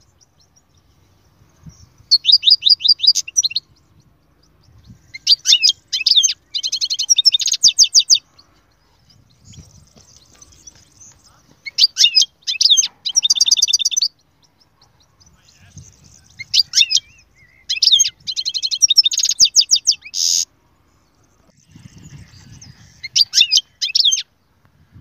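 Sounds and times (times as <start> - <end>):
bird twittering trills: 0.0 - 24.6.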